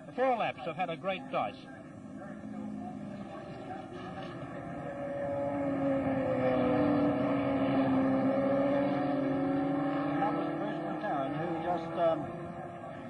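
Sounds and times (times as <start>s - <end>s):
racing car engine high revs: 2.0s - 13.0s.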